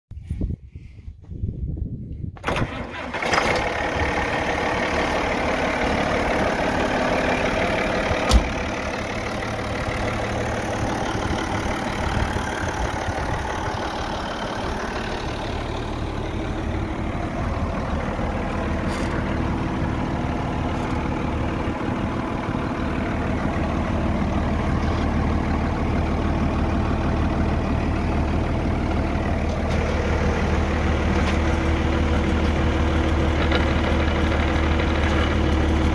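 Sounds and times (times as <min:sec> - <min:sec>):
tractor diesel engine idling: 0:02.4 - 0:35.9.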